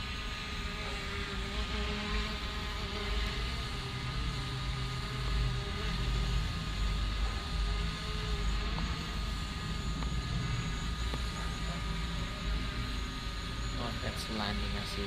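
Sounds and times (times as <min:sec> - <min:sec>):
drone propellers buzzing: 0:00.0 - 0:15.0.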